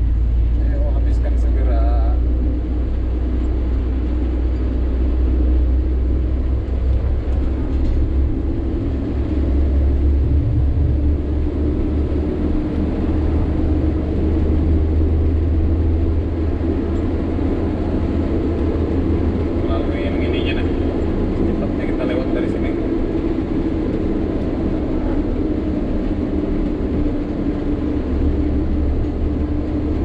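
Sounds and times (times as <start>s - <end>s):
diesel truck engine droning: 0.0s - 30.0s
road noise: 0.0s - 30.0s.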